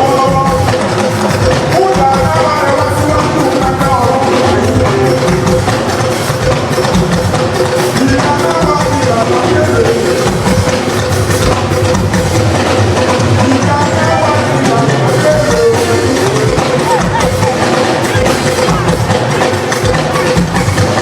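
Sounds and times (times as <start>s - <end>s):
drum kit beat: 0.0s - 21.0s
live band music: 0.0s - 21.0s.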